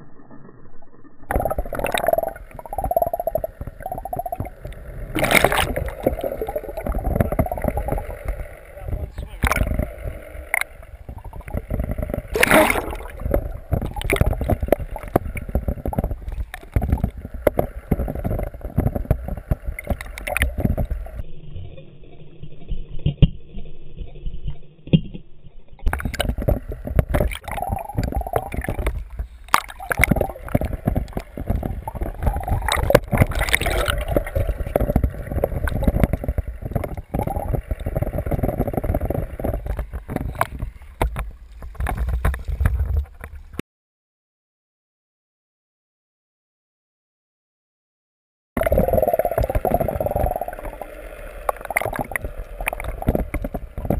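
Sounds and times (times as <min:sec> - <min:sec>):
water churning and gurgling: 0:00.0 - 0:43.6, 0:48.6 - 0:53.9
faint steady hum: 0:01.2 - 0:43.6, 0:48.6 - 0:53.9.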